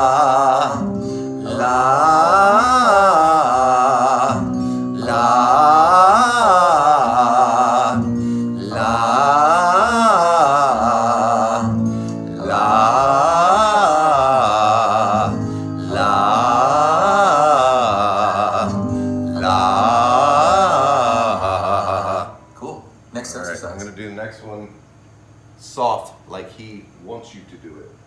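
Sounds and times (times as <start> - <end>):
person singing vocal exercise: 0.0 - 22.5.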